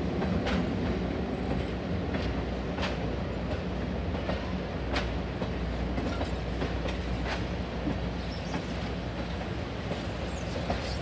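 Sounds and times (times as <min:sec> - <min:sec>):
train rolling over bridge: 0:00.0 - 0:11.0.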